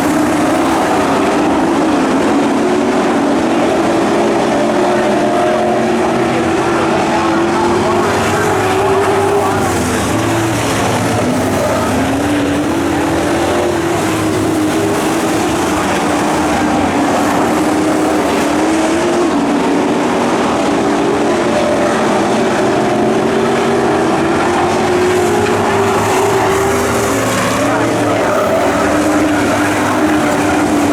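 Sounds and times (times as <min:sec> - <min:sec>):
racing truck engines: 0:00.0 - 0:30.9.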